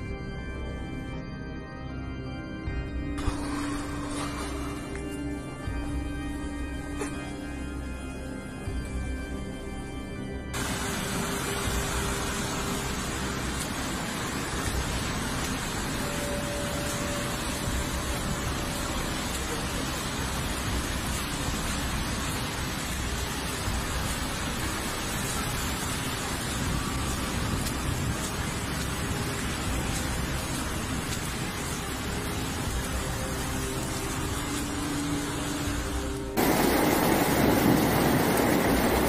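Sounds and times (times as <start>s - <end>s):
floodwater rushing: 3.2s - 7.7s, 10.6s - 39.0s.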